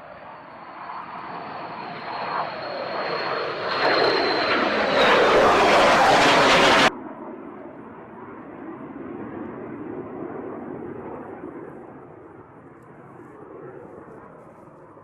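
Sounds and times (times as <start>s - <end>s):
fighter jet passing: 0.0s - 15.0s.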